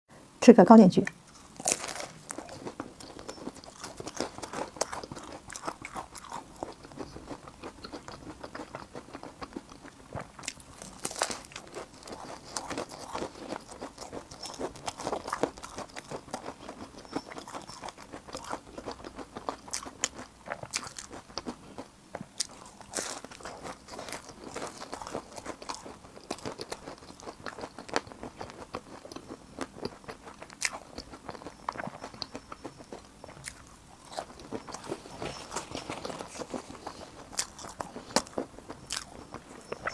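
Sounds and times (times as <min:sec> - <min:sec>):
person chewing crunchy food: 0:01.2 - 0:39.9.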